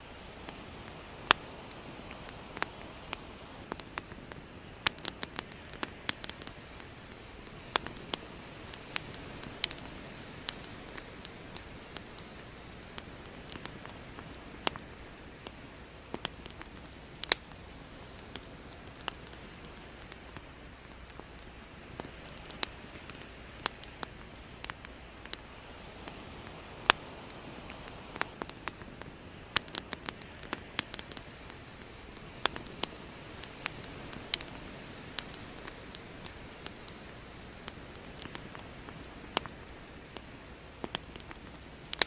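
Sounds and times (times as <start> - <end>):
firewood crackling and popping: 0.0 - 42.0
soft steady hiss: 0.0 - 42.0.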